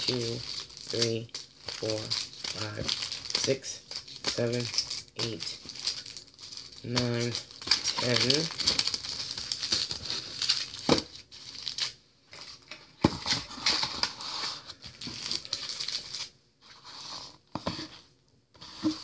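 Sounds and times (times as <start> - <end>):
paper crinkling and rustling: 0.0 - 18.0.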